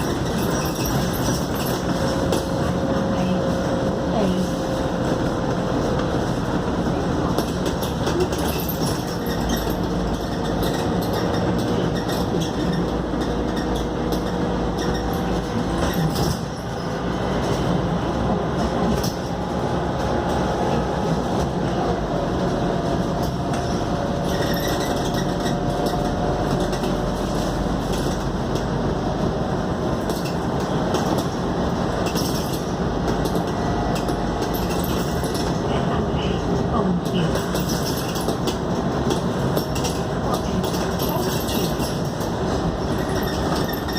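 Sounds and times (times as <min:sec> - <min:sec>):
bodywork rattles and clicks: 0:00.0 - 0:03.9, 0:04.6 - 0:35.7, 0:36.4 - 0:43.9
bus engine and road drone: 0:00.0 - 0:43.9.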